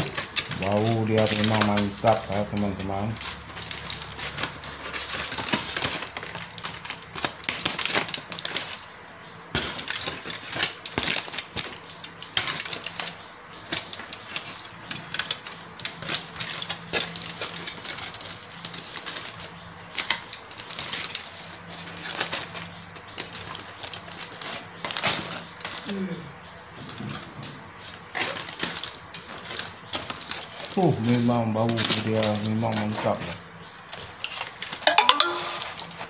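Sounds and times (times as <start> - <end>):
aluminium foil crinkling: 0.0 - 36.0.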